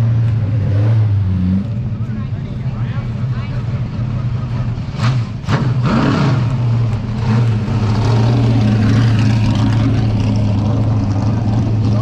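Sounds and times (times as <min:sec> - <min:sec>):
car engine running steadily: 0:00.0 - 0:12.0.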